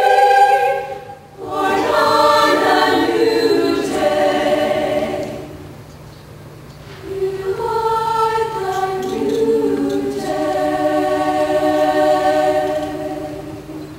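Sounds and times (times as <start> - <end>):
choir singing chords: 0.0 - 5.9, 7.0 - 13.9.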